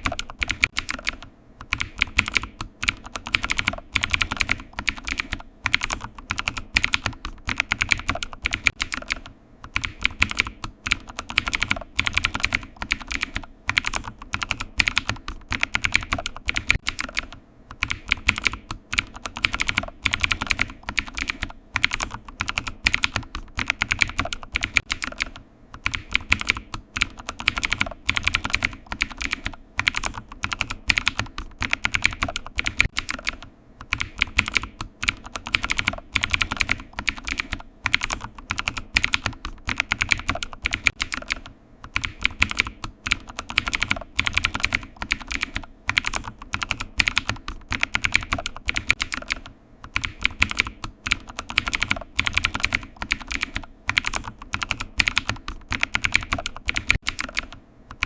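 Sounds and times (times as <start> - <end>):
keyboard typing: 0.0 - 58.0.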